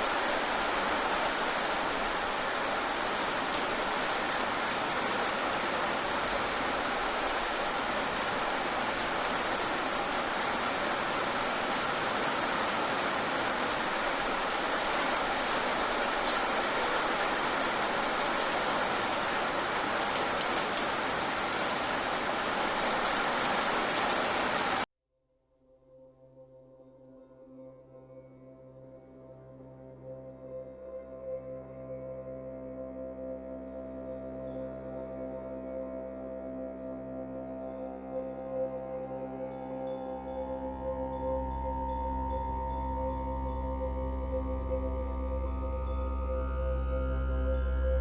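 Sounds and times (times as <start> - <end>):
steady rain falling: 0.0 - 24.9, 32.2 - 48.0.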